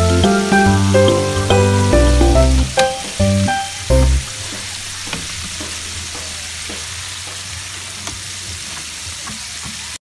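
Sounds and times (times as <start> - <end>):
chicken deep-frying in oil: 0.0 - 10.0.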